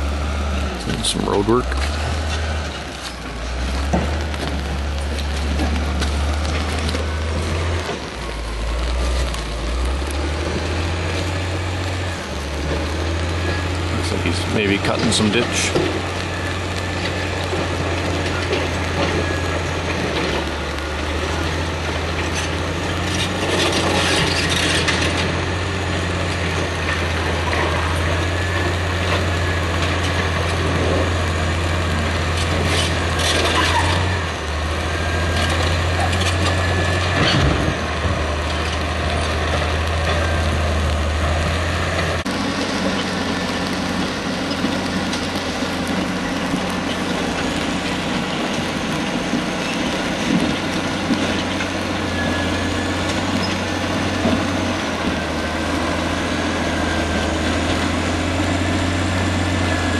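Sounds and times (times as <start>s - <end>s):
diesel dozer engine working: 0.0s - 59.9s
steel tracks clattering: 0.6s - 59.9s.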